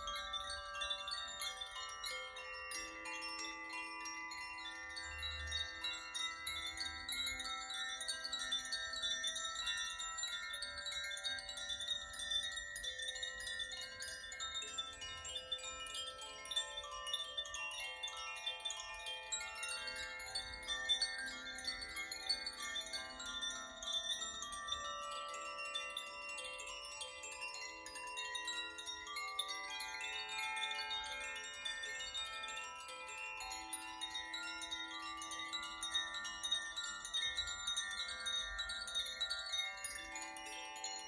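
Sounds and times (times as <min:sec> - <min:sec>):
wind chimes ringing: 0:00.0 - 0:41.0.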